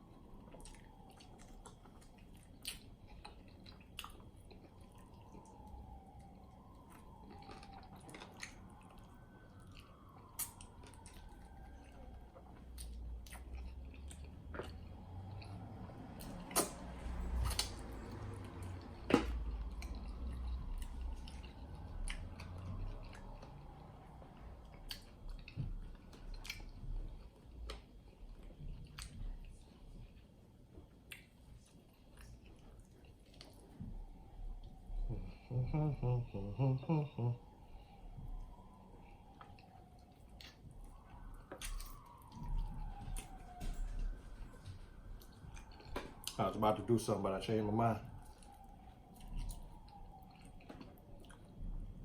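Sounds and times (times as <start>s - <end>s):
person chewing sticky food: 0.0s - 47.2s, 47.8s - 52.0s.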